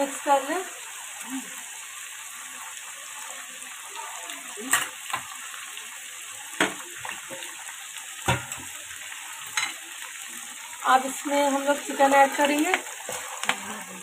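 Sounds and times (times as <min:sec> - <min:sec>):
masala sizzling in hot oil: 0:00.0 - 0:14.0.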